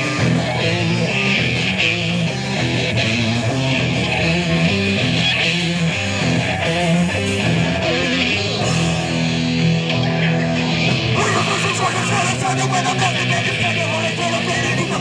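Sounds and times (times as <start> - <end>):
bass guitar riffing: 0.0 - 15.0
drums: 0.0 - 15.0
electric guitar riffing: 0.0 - 15.0.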